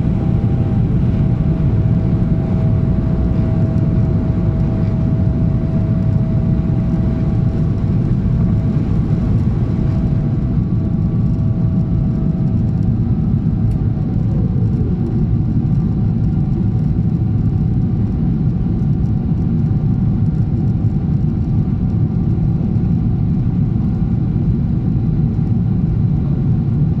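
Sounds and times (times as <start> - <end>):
jet engine cabin roar: 0.0 - 27.0.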